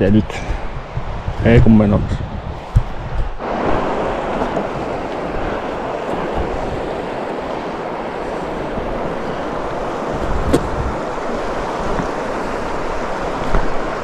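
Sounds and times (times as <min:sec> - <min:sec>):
wind buffeting microphone: 0:00.0 - 0:14.0
river rushing over rocks: 0:02.7 - 0:14.0.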